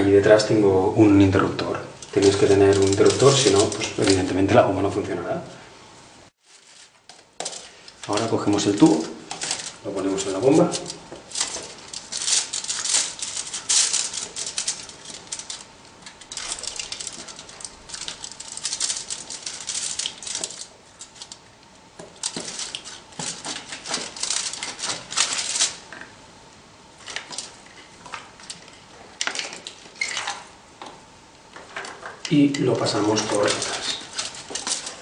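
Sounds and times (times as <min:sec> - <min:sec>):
aluminium foil rustling: 0:01.4 - 0:04.6, 0:06.3 - 0:26.2, 0:26.8 - 0:35.0.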